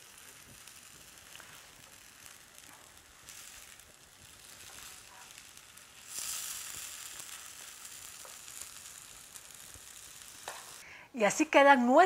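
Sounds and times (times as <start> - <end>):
patties sizzling in oil: 0.0 - 11.4.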